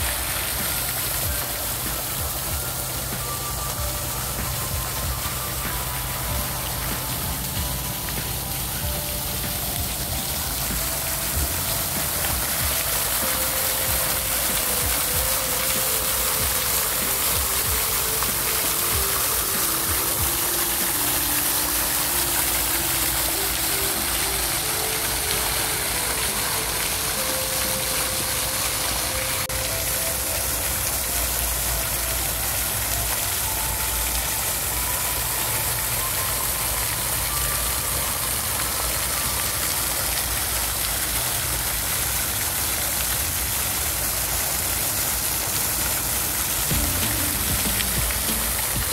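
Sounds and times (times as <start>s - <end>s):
fountain water splashing: 0.0s - 48.9s.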